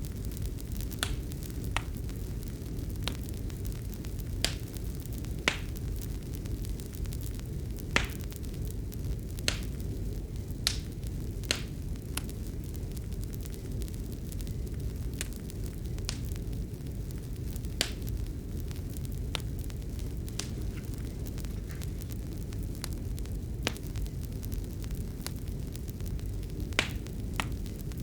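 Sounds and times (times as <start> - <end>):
fire crackling and popping: 0.0 - 28.0
low rumble of fire: 0.0 - 28.0.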